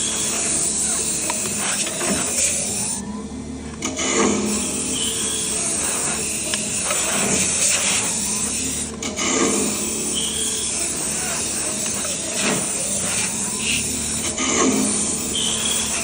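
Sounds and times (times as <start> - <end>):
lathe cutter hissing on wood: 0.0 - 3.0, 3.9 - 16.0
machine hum: 0.0 - 16.0.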